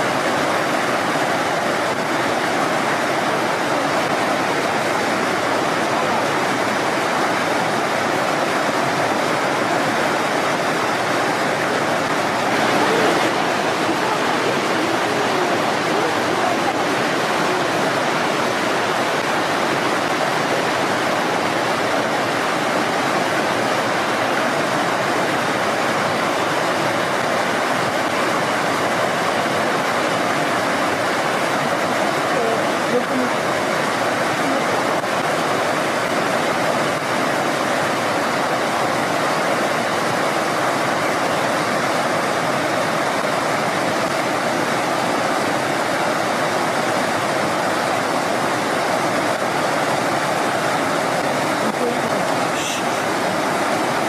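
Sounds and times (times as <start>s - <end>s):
fast-flowing stream rushing: 0.0s - 54.0s.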